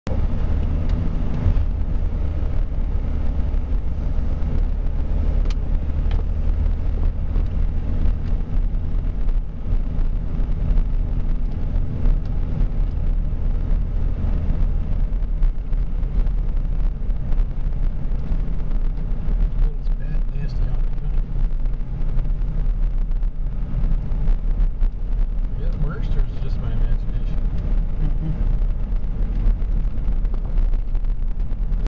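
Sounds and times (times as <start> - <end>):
vehicle engine rumble: 0.0 - 31.9.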